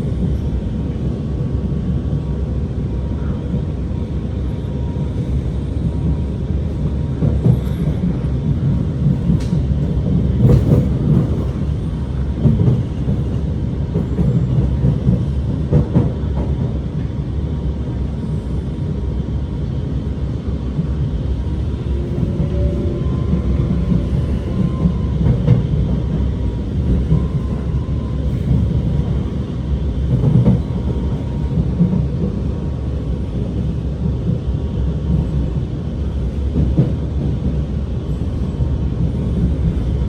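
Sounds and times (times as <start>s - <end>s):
metro train rumbling: 0.0s - 40.0s.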